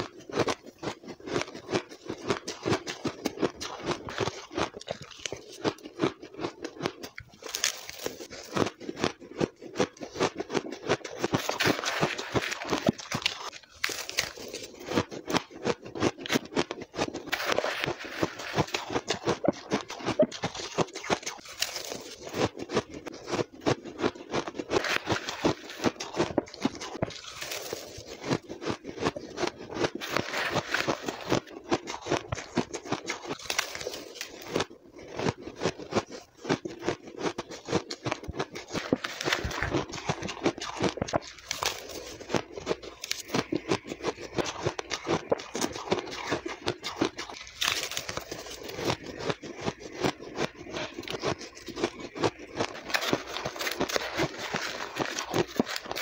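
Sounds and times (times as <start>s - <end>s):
crushed ice being chewed: 0.0s - 56.0s.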